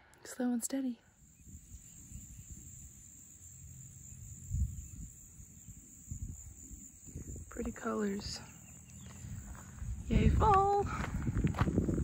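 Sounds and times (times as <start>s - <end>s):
crickets trilling: 1.0s - 12.0s.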